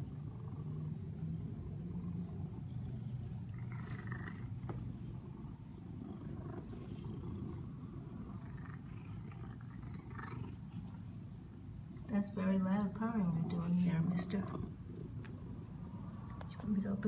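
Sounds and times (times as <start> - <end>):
cat purring loudly: 0.0 - 17.0.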